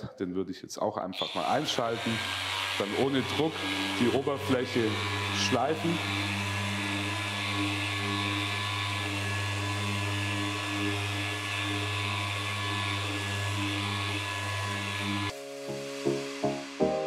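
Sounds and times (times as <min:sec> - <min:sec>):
orbital sander humming: 0:01.2 - 0:17.0.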